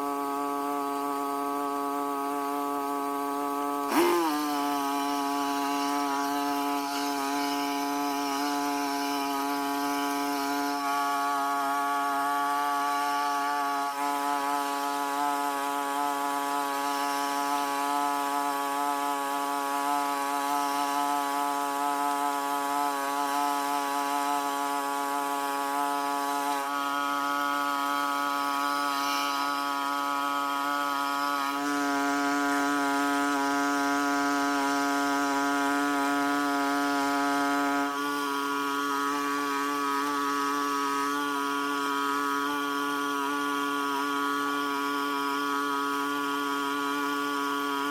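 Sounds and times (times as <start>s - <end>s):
small high-revving engine: 0.0s - 47.9s.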